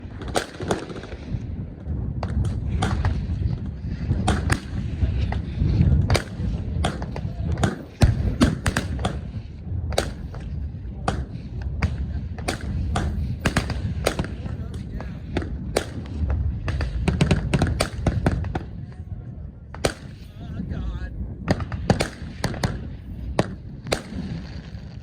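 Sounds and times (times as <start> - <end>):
gunfire: 0.0 - 1.4, 2.2 - 18.8, 19.7 - 20.4, 21.5 - 25.0
low rumble: 0.0 - 25.0.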